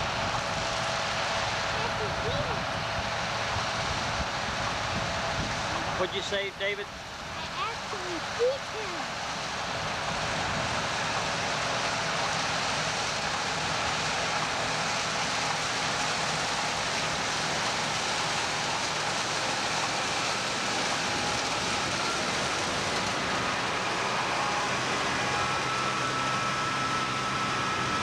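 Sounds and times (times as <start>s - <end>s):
combine harvester rushing noise: 0.0s - 28.0s.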